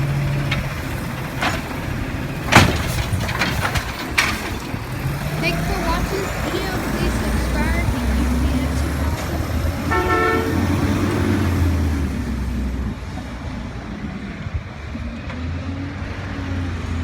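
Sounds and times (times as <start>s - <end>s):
garbage truck diesel engine: 0.0s - 17.0s.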